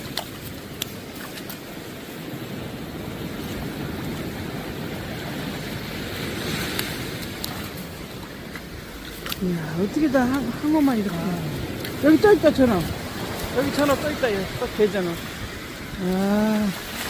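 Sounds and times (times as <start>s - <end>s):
sea surf washing onto beach: 0.0s - 17.0s
wind on microphone: 0.0s - 17.0s.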